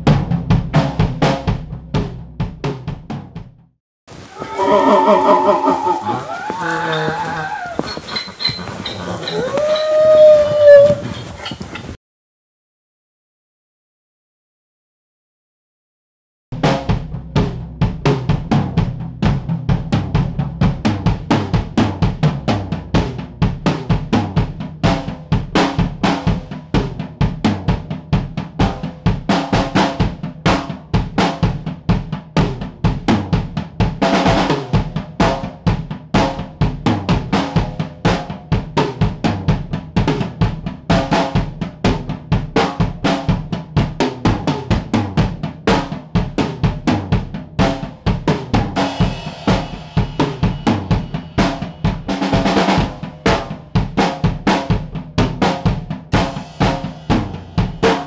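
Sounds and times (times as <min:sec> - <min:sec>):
music with drum beat: 0:00.0 - 0:03.8, 0:04.4 - 0:11.1, 0:16.5 - 0:58.0.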